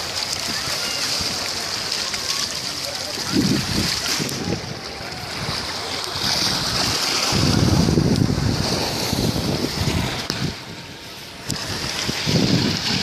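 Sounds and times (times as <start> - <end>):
sea waves hissing: 0.0 - 13.0
wind buffeting microphone: 2.3 - 13.0.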